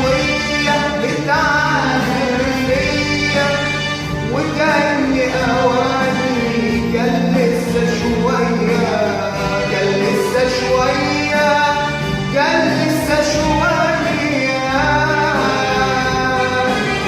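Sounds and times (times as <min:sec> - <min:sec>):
instrumental accompaniment: 0:00.0 - 0:17.0
man singing ornamented melody: 0:00.0 - 0:17.0.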